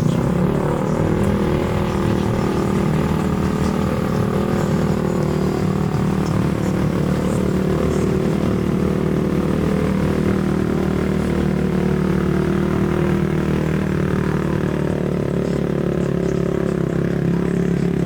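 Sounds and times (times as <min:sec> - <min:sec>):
engine droning steadily: 0:00.0 - 0:18.0.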